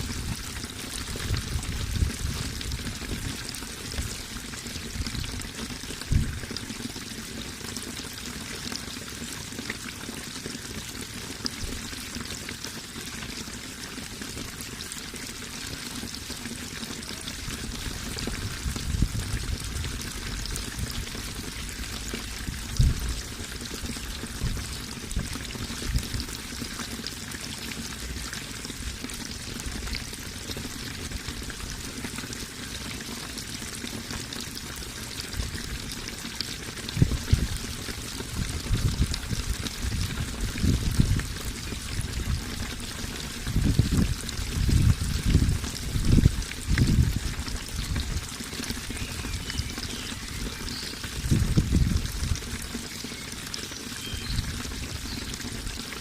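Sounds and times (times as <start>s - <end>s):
water pouring: 0.0s - 56.0s.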